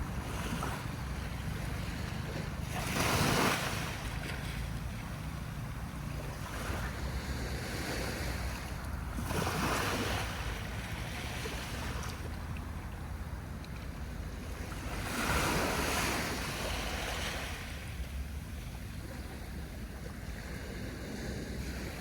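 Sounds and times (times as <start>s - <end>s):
sea waves breaking on beach: 0.0s - 12.4s, 14.0s - 22.0s.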